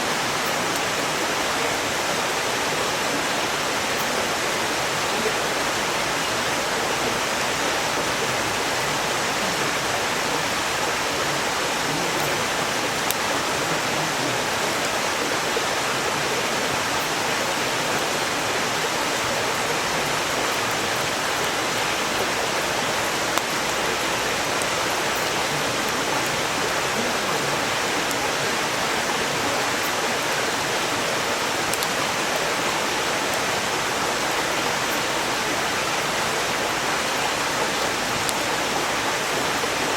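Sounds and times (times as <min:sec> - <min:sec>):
campfire crackling: 0:00.0 - 0:39.9
mountain stream rushing: 0:00.0 - 0:39.9.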